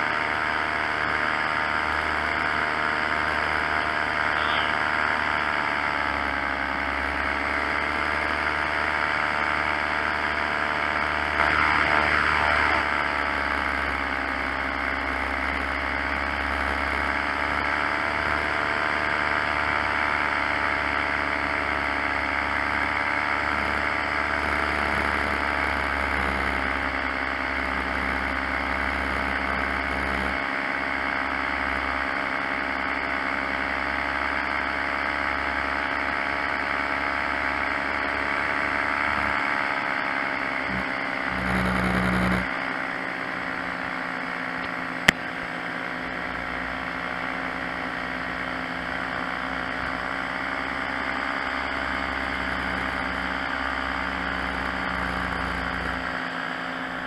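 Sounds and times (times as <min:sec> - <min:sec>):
paramotor engine running: 0:00.0 - 0:57.0.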